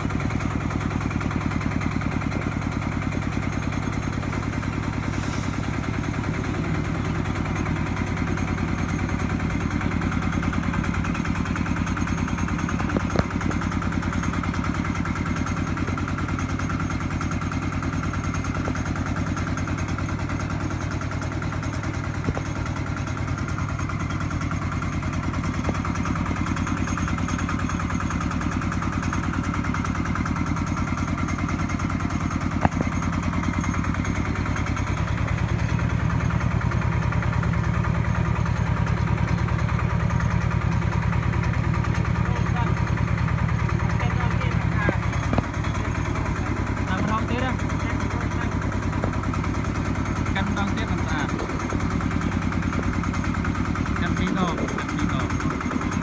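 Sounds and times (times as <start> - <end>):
diesel engine running under load: 0.0 - 56.0
rice mill hulling: 0.0 - 56.0.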